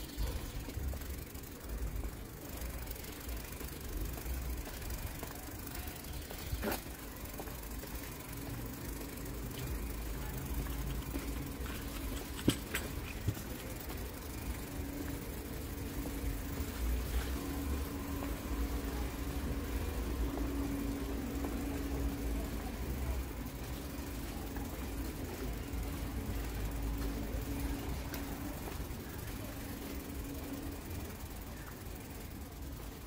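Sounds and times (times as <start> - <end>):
idling engine hum: 0.0 - 33.0.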